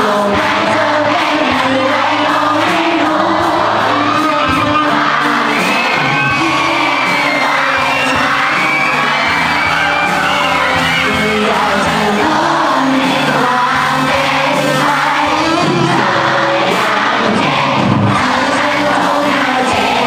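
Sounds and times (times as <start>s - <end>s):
drum kit: 0.0s - 20.0s
electric guitars: 0.0s - 20.0s
person singing: 0.0s - 20.0s.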